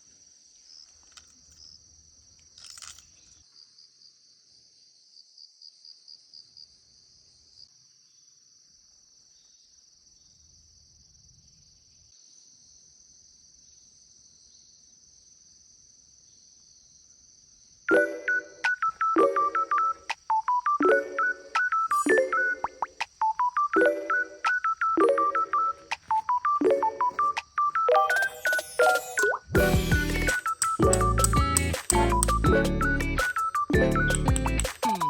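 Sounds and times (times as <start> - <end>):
night insects chirping: 0.0 - 35.0.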